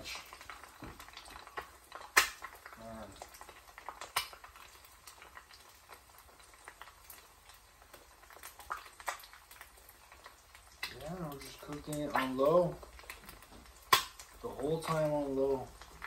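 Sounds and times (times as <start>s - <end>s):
eggs frying with fat popping: 0.0s - 16.0s.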